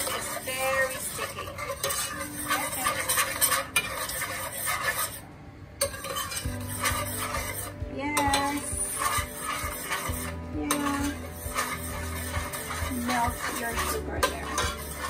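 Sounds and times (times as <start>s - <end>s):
metal spoon scraping a pot: 0.0s - 15.0s.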